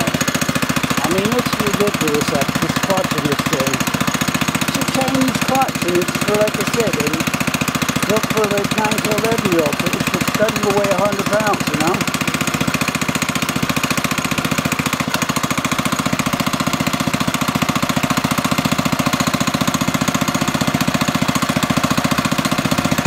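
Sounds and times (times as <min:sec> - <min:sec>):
mini bike engine idling: 0:00.0 - 0:23.0.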